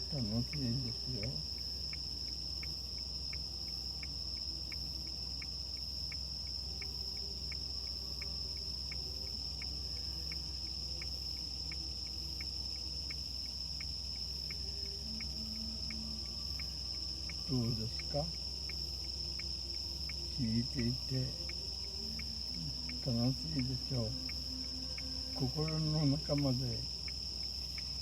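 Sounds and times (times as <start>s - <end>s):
crickets trilling: 0.0s - 28.0s
low cricket chirp: 0.0s - 28.0s
steady low hum: 0.0s - 28.0s.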